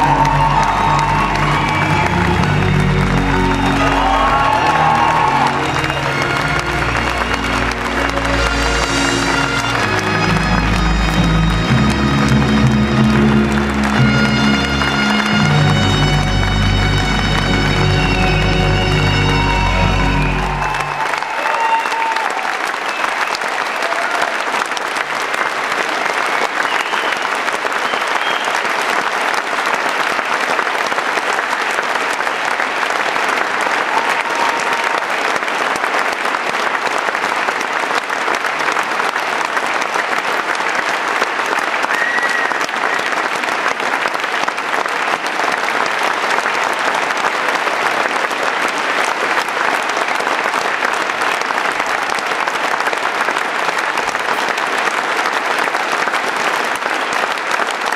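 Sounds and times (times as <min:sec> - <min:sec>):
audience applauding: 0:00.0 - 0:57.9.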